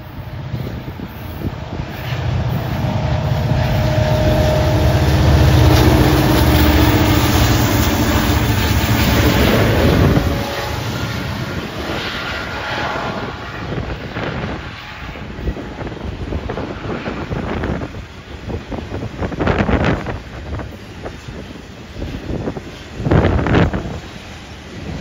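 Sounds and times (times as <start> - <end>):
diesel locomotive engine drone: 0.0 - 25.0
freight car wheels rumbling on rail: 0.0 - 25.0.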